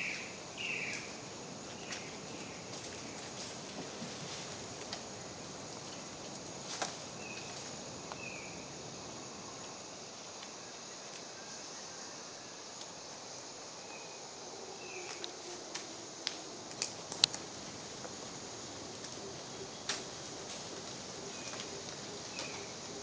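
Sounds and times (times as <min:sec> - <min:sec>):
insect hiss: 0:00.0 - 0:23.0.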